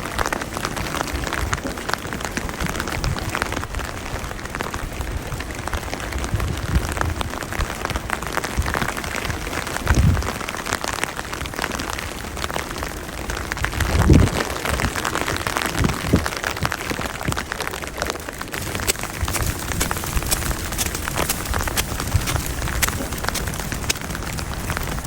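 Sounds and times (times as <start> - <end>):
rain patter: 0.0 - 25.0.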